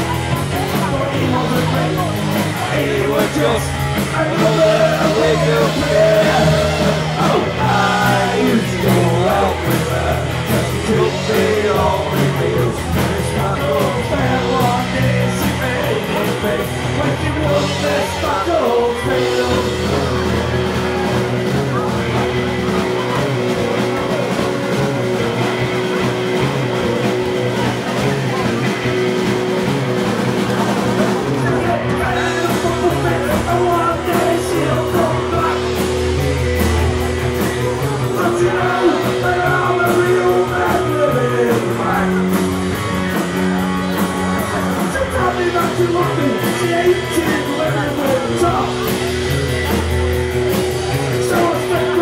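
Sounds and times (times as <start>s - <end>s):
bass guitar: 0.0s - 52.0s
drum kit: 0.0s - 52.0s
electric guitar: 0.0s - 52.0s.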